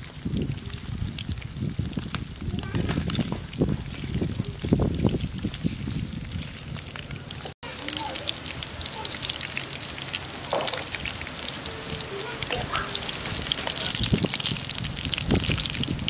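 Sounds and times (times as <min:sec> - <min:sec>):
eels frying in hot oil: 0:00.0 - 0:16.0.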